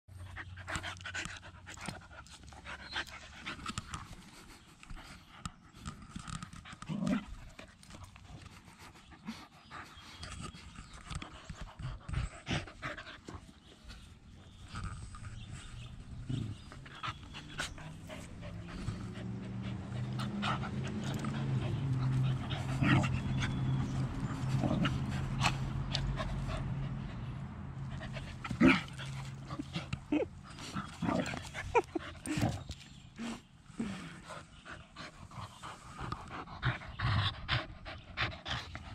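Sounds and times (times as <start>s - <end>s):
dogs panting: 0.1s - 38.9s.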